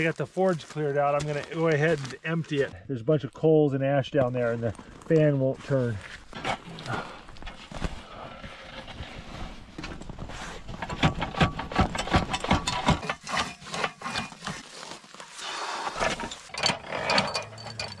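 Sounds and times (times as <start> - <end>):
gritty scraping: 0.0 - 18.0.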